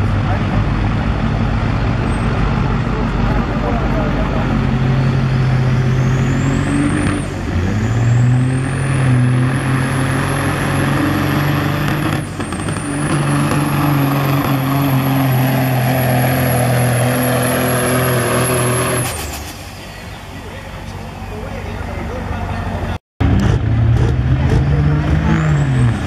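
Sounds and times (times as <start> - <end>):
diesel truck engine at full throttle: 0.0 - 26.0.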